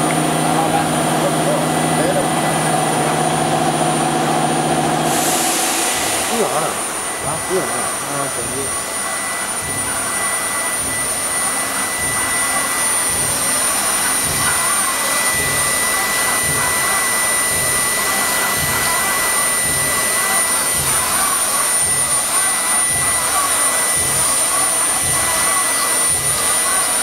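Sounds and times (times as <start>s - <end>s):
cutter hissing through foam: 4.9s - 27.0s.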